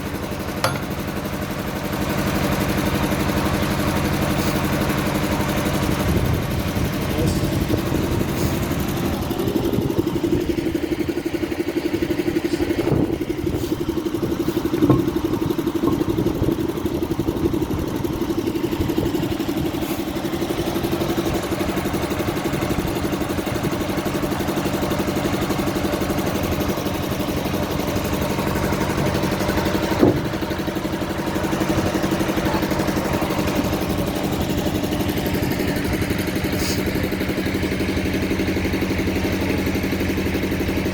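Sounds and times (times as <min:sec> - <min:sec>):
heavy diesel engine idling: 0:00.0 - 0:40.9.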